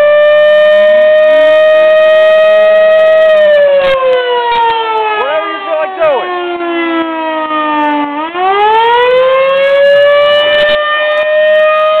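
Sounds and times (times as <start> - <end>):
fire engine siren: 0.0 - 12.0.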